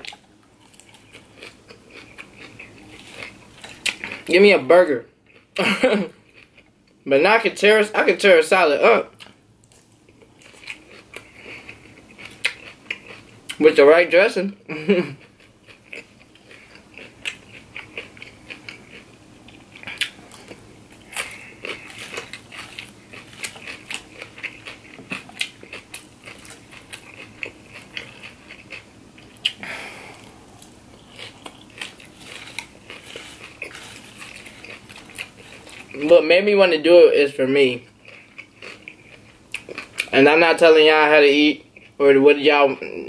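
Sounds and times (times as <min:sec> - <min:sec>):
chewing crunchy salad: 0:00.0 - 0:07.0, 0:09.0 - 0:13.8, 0:14.5 - 0:43.0.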